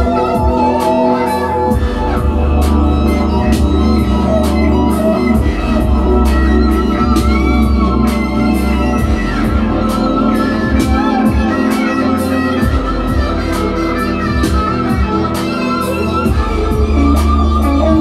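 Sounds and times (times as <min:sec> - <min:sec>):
deep bass: 0:00.0 - 0:18.0
drum machine beat: 0:00.0 - 0:18.0
synthesizer chords: 0:00.0 - 0:18.0.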